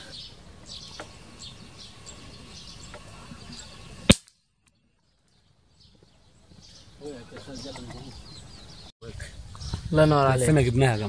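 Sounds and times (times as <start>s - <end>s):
faint bird chirps: 0.0s - 8.9s.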